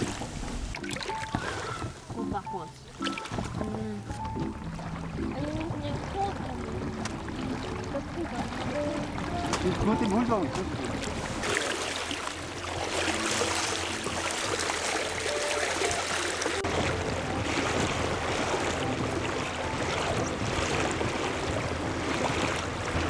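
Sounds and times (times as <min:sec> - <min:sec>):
water splashing against boat: 0:00.0 - 0:23.0.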